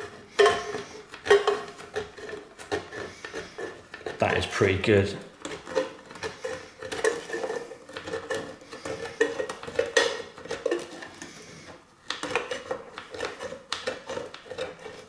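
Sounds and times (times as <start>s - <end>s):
can opener cutting tin can: 0.0s - 15.0s.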